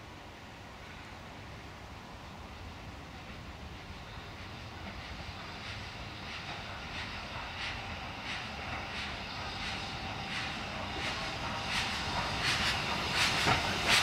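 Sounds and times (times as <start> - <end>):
steam locomotive exhaust chuffs: 2.6 - 14.0.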